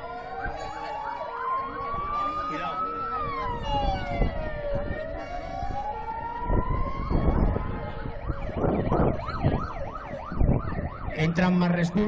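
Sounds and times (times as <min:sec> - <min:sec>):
emergency vehicle siren: 0:00.0 - 0:12.0.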